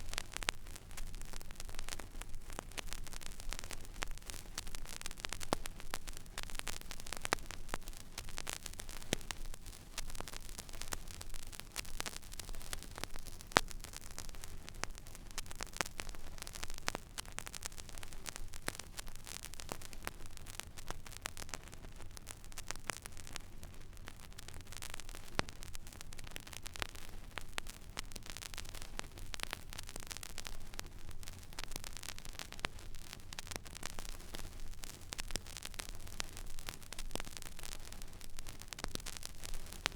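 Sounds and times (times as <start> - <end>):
vinyl surface hiss and crackles: 0.0 - 39.9.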